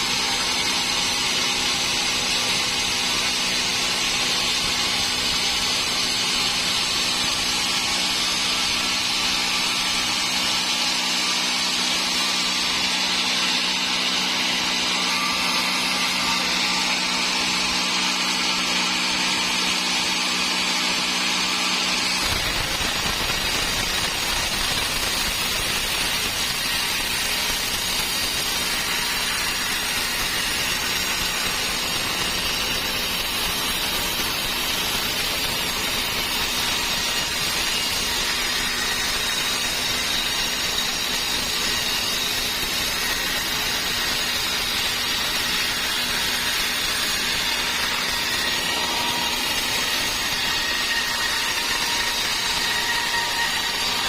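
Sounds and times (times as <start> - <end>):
saw cutting log: 0.0 - 54.0.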